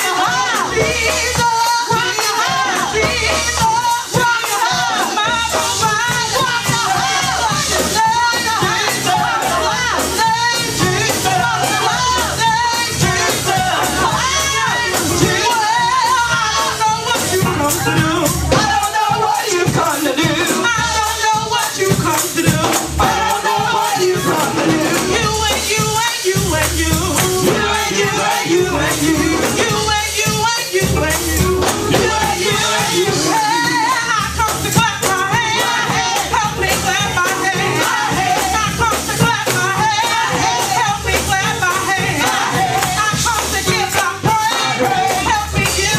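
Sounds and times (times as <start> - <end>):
band with steady beat: 0.0 - 45.9
bass: 0.0 - 45.9
gospel singing: 0.0 - 45.9.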